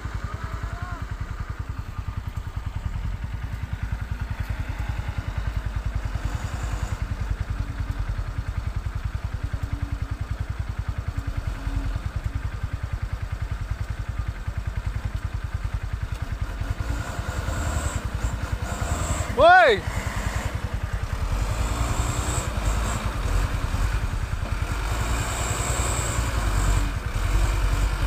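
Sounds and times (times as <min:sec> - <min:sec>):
small motorcycle engine idling: 0:00.0 - 0:28.0.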